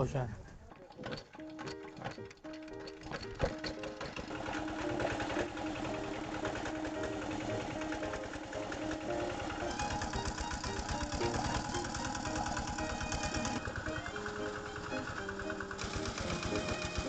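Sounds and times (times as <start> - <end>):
small diesel engine knocking: 1.2 - 17.0.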